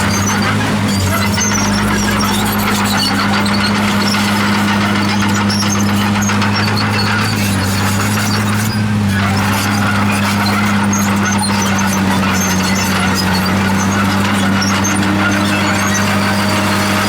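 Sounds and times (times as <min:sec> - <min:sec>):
bulldozer diesel engine running: 0:00.0 - 0:17.0
metal parts squeaking: 0:00.0 - 0:17.0.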